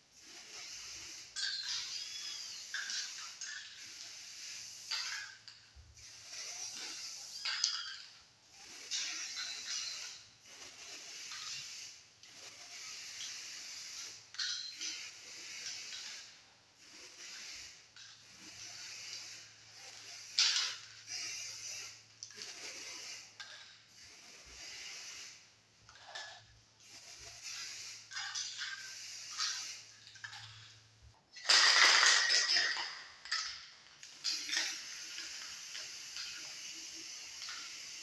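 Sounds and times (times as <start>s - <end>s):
spray-paint can hissing: 0.1s - 38.0s.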